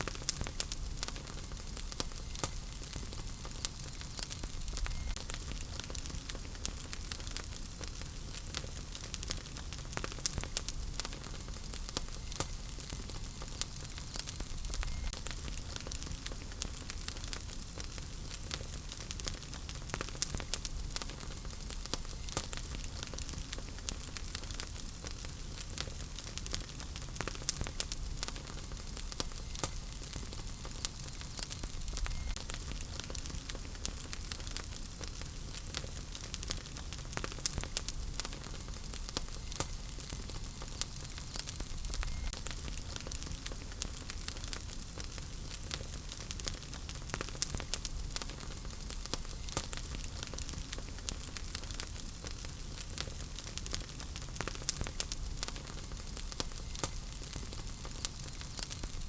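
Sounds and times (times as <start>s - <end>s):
flames hissing: 0.0s - 59.0s
wood fire crackling and popping: 0.0s - 59.0s.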